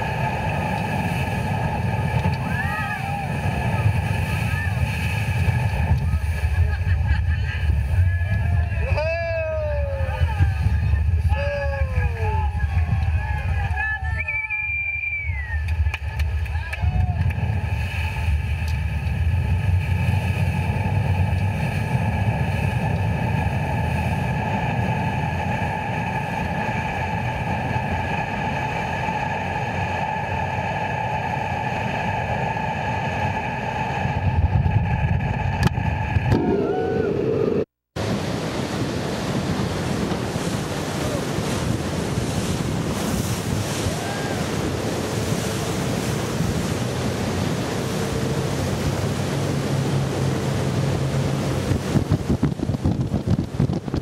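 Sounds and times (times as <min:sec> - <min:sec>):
rushing water: 0:00.0 - 0:30.6, 0:38.0 - 0:54.0
motorboat motor whine: 0:00.0 - 0:54.0
wind on microphone: 0:00.0 - 0:54.0.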